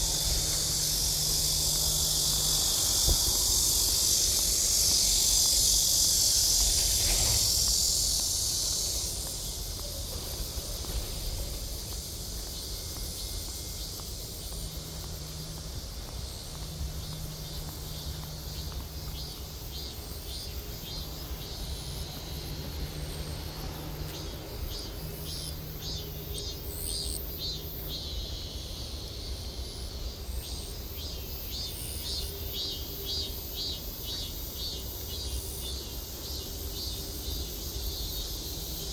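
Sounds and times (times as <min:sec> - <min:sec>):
insects chirping in trills: 0:00.0 - 0:38.9
loud steady high hiss: 0:00.0 - 0:38.9.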